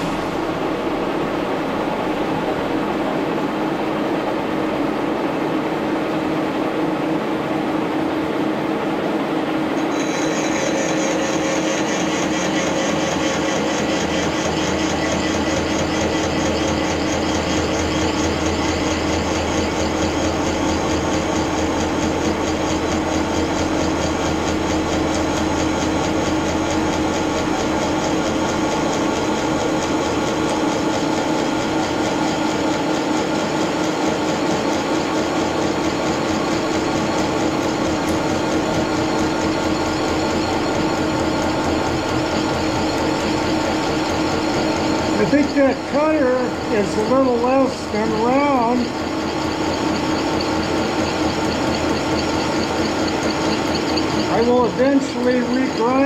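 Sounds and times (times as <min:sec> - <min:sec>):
milling machine humming: 0:00.0 - 0:56.0.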